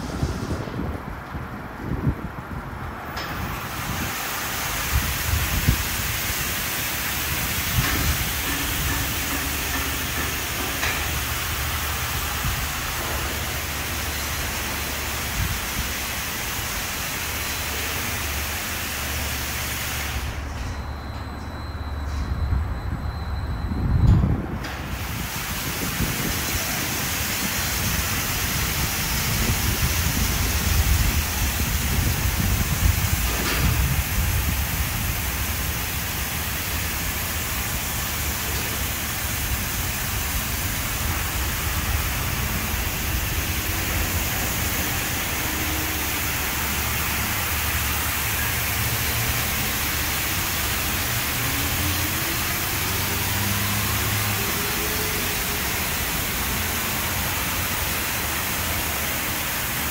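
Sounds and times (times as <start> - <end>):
spray hissing on a car: 0.0 - 1.0, 3.3 - 20.4, 24.7 - 59.9.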